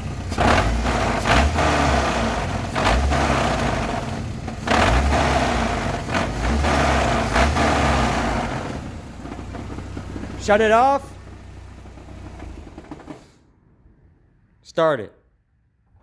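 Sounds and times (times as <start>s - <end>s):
car engine revving: 0.0s - 13.5s
engine knocking: 0.0s - 13.5s.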